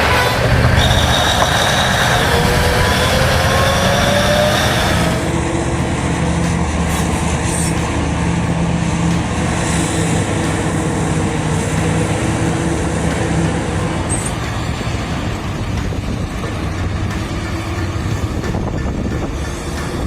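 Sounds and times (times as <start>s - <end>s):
diesel engine running: 0.0s - 19.4s.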